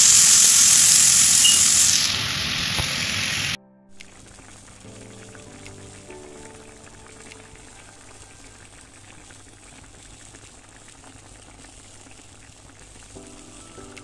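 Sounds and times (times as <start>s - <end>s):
sauce bubbling in a pan: 0.0s - 2.8s, 4.0s - 14.0s.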